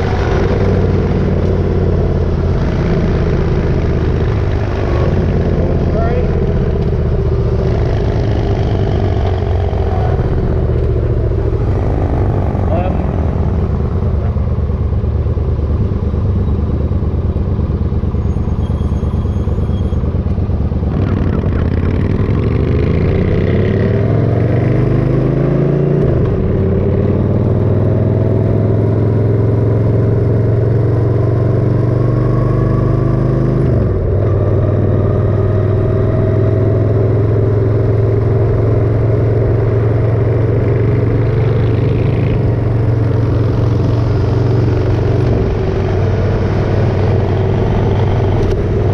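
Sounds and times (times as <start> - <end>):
motorcycle engine revving: 0.0 - 18.3, 20.4 - 48.9.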